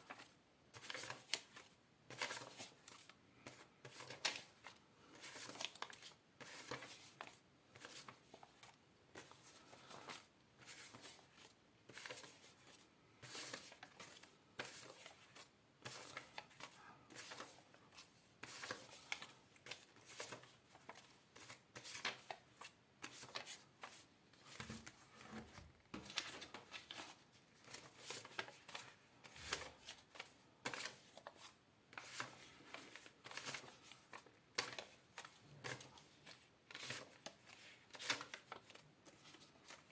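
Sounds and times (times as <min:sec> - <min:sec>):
paper banknotes rustling: 0:00.0 - 0:39.9.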